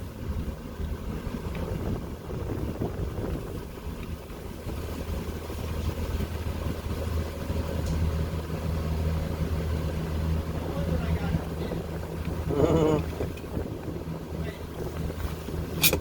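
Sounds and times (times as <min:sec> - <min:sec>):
car engine low hum: 0:00.0 - 0:16.0
road and wind noise: 0:00.0 - 0:16.0.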